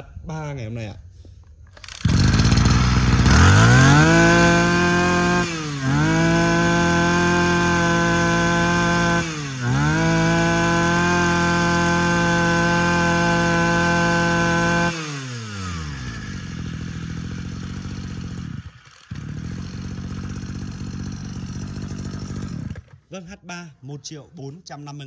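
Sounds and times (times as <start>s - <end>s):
brush cutter engine revving: 1.8s - 23.1s.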